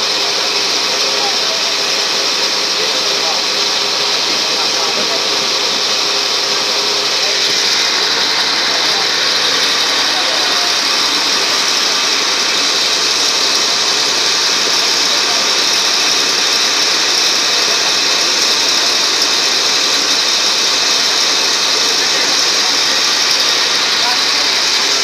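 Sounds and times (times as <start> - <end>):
ferry engine din: 0.0 - 25.0.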